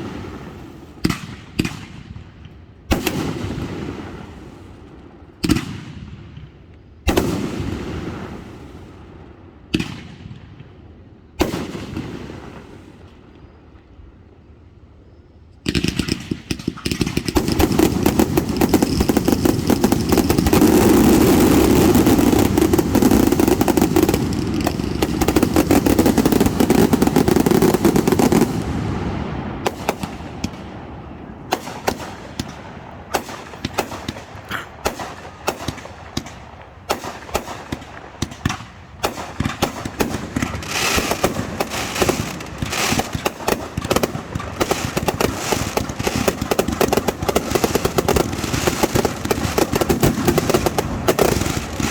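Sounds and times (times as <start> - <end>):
fireworks bursting and crackling: 0.0 - 13.6, 15.6 - 51.9.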